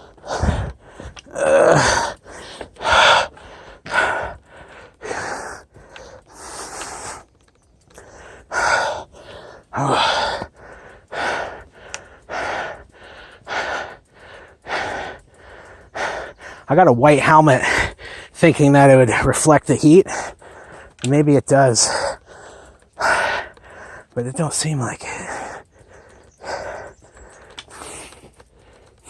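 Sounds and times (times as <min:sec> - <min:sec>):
person breathing hard: 0:00.0 - 0:16.7, 0:17.4 - 0:18.4, 0:20.0 - 0:24.2, 0:25.0 - 0:29.0.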